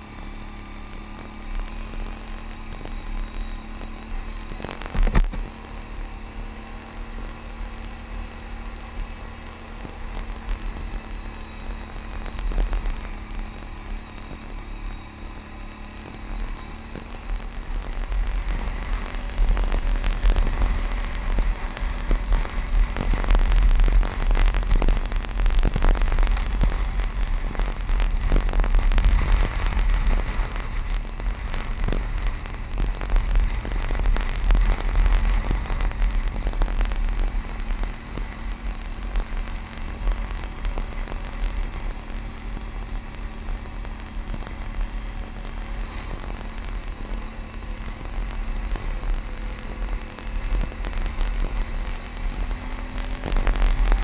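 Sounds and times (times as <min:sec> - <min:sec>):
atv engine drone: 0:00.0 - 0:54.0
gravel crackles and knocks: 0:00.3 - 0:54.0.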